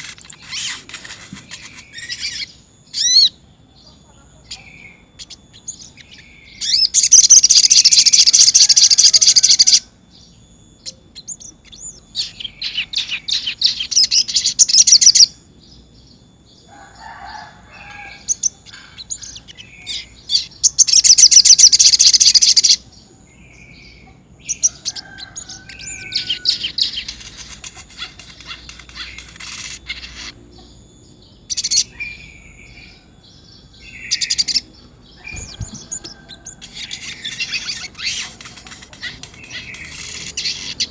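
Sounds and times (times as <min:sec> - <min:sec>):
bird chirps and call notes: 0:00.0 - 0:40.9
bird trilling song: 0:00.0 - 0:40.9.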